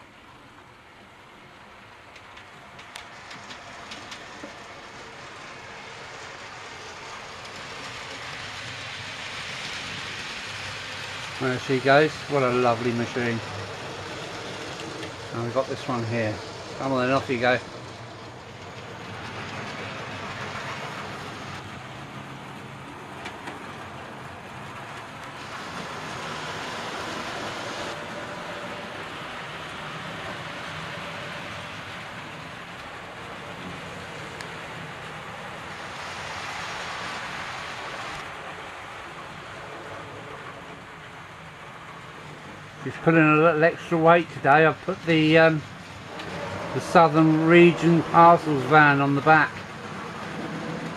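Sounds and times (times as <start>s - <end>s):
model train running on track: 0.0s - 50.9s.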